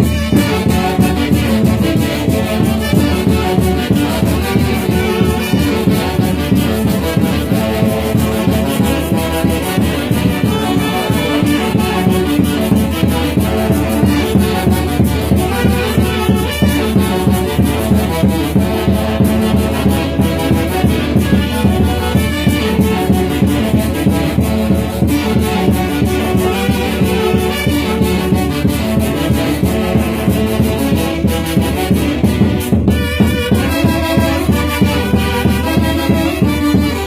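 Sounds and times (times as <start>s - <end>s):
band music with horns: 0.0s - 37.0s.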